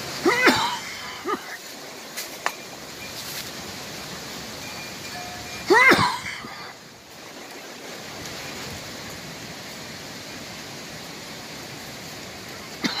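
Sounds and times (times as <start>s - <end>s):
rain: 0.0s - 13.0s
wind: 0.0s - 13.0s.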